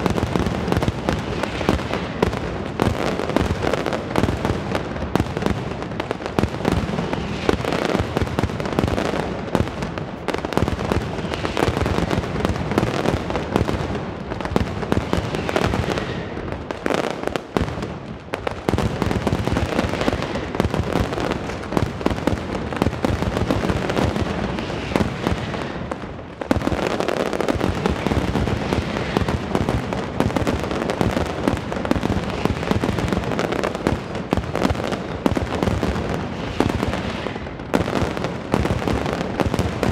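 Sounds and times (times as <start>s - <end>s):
firecrackers going off: 0.0s - 39.9s.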